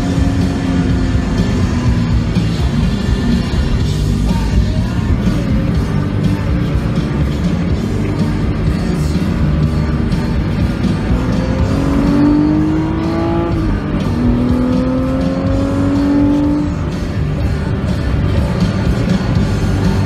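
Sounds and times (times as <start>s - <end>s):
background music: 0.0s - 20.0s
car engine accelerating: 0.0s - 20.0s.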